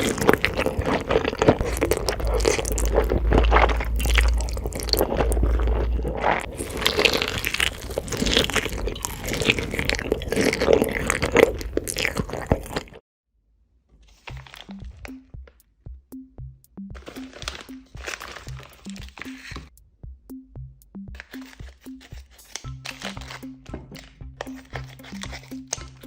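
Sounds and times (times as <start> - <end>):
person chewing crunchy food: 0.0 - 13.0, 14.2 - 15.4, 17.0 - 19.7, 21.1 - 26.0.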